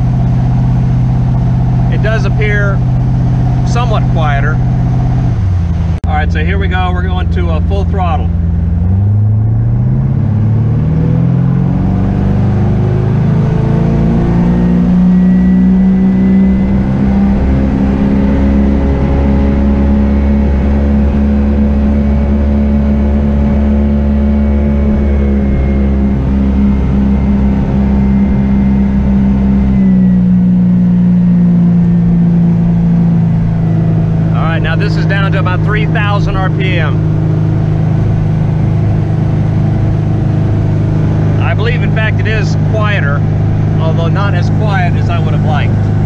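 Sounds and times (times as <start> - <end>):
boat engine revving: 0.0 - 46.0.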